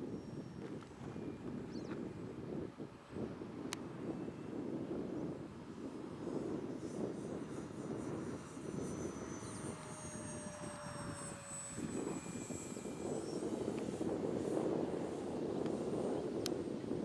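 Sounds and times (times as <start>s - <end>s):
model plane motors whining: 0.0s - 17.0s
wind rumble on microphone: 0.0s - 17.0s.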